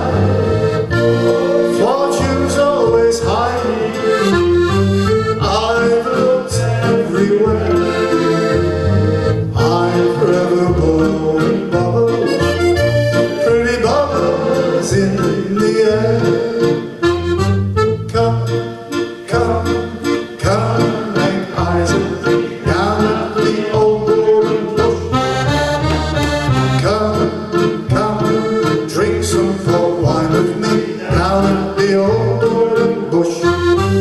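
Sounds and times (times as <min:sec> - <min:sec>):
accordion playing: 0:00.0 - 0:34.0.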